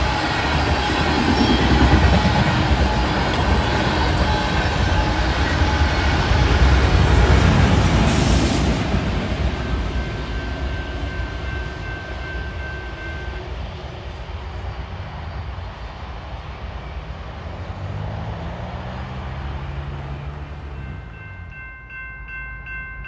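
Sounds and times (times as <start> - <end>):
locomotive engine hum: 0.0 - 21.8
train rumbling past: 0.0 - 22.9.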